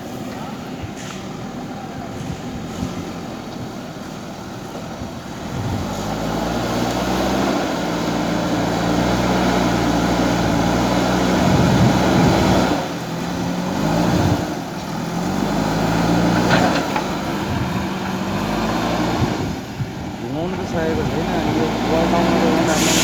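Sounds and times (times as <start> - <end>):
backhoe diesel engine revving: 0.0 - 23.0.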